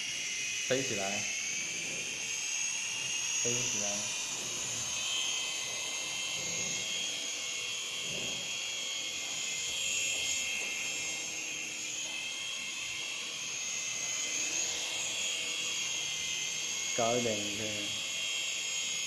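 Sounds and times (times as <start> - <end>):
toy airplane motors whining: 0.0 - 19.0.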